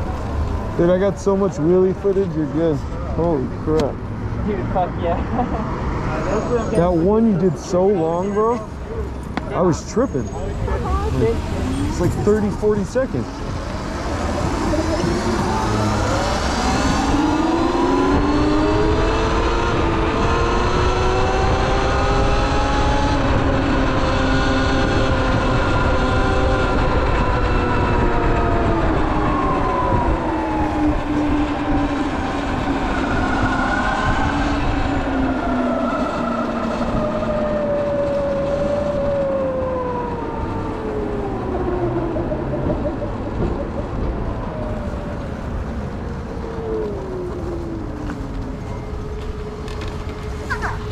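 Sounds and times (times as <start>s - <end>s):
wind and road noise: 0.0s - 50.9s.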